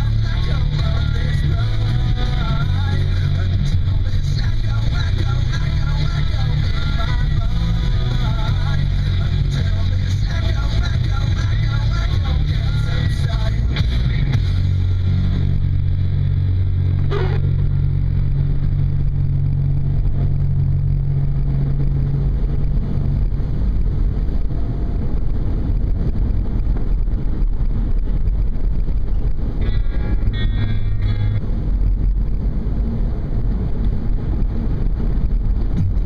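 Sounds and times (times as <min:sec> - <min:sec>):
car engine drone: 0:00.0 - 0:36.0
road rumble: 0:00.0 - 0:36.0.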